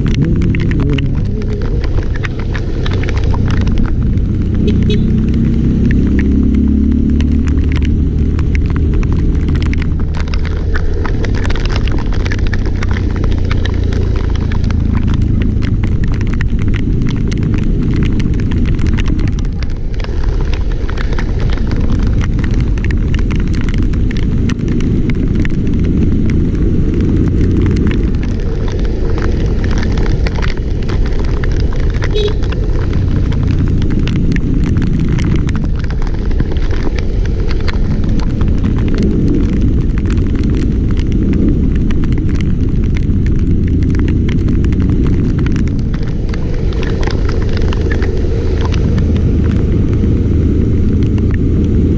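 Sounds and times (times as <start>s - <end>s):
dense crackling: 0.0s - 51.9s
low engine drone: 0.0s - 51.9s
wind rumble on microphone: 0.0s - 51.9s.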